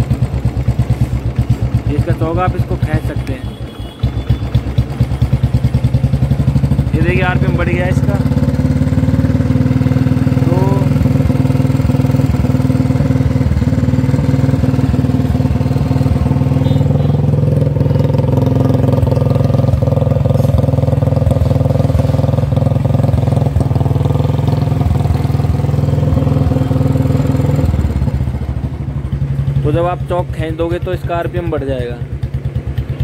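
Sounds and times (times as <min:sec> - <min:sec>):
motorcycle engine idling high: 0:00.0 - 0:33.0.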